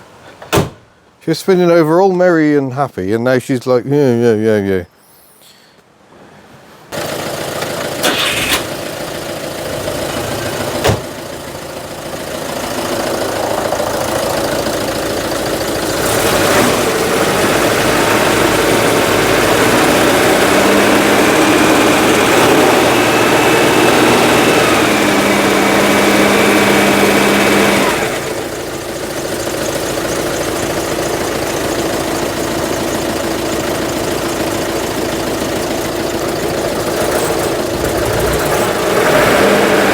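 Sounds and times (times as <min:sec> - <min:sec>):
car engine starting and running: 0:07.0 - 0:39.9.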